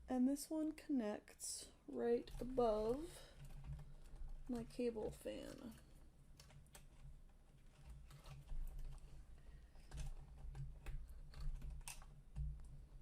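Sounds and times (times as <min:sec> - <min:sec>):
clicks of plastic connectors: 0:02.2 - 0:12.8.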